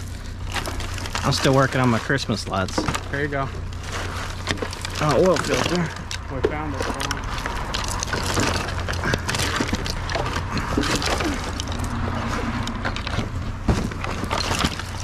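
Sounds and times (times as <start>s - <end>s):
objects clattering in a dumpster: 0.0s - 15.0s
steady low hum: 0.0s - 15.0s.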